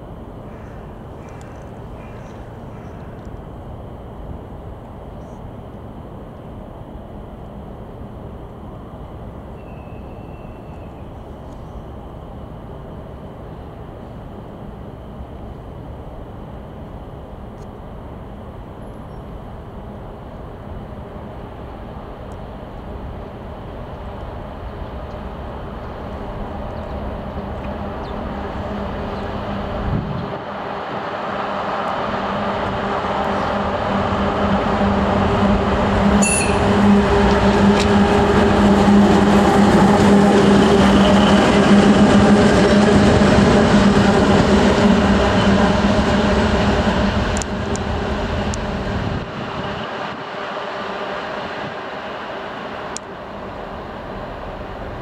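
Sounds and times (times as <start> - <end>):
diesel locomotive engines humming: 0.0 - 55.0
train wheel rumble: 0.0 - 55.0.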